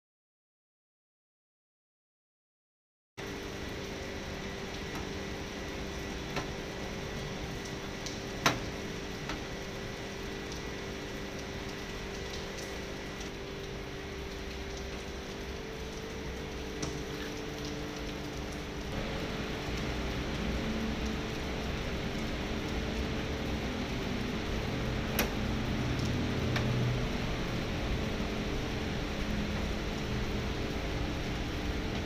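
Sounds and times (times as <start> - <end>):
steady mechanical hum: 3.2 - 32.0.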